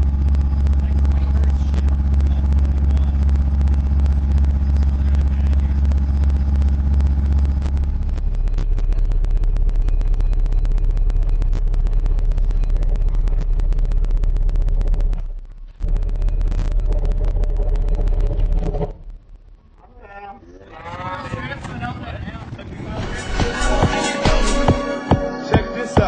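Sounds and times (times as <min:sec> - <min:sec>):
subwoofer bass tone: 0:00.0 - 0:26.0.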